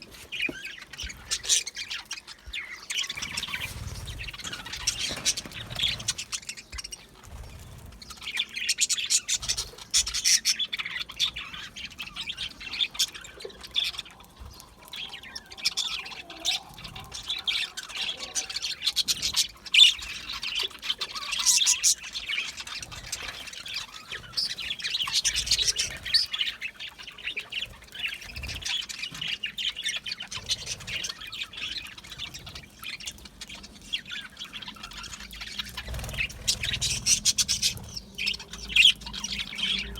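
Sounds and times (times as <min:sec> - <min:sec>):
budgerigars chattering: 0:00.2 - 0:39.9.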